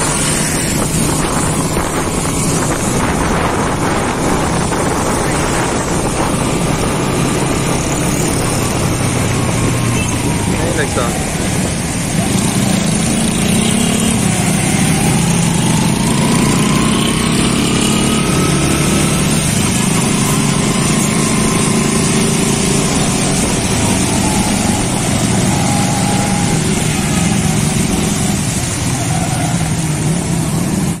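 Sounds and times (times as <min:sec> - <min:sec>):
tyre noise on wet road: 0:00.0 - 0:31.0.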